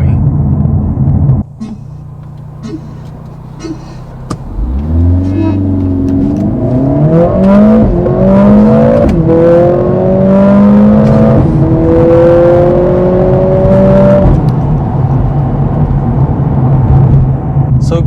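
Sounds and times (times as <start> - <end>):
car engine accelerating hard: 0.3 - 17.8.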